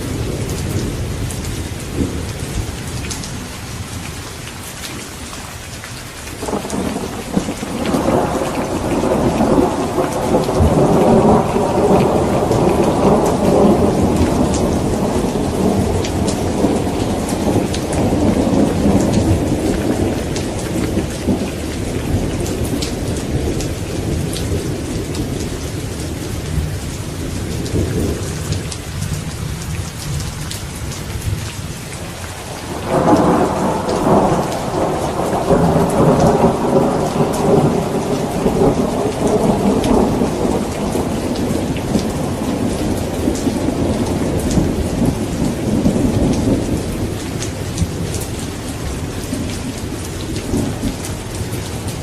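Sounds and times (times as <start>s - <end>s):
steady rain: 0.0s - 52.0s
thunder rumbling: 6.4s - 52.0s.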